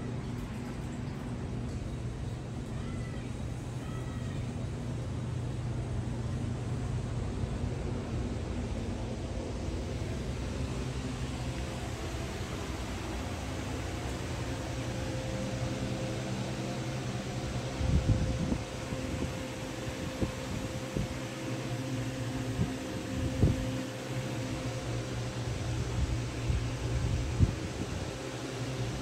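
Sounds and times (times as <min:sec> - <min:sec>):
electric fan humming: 0:00.0 - 0:29.0.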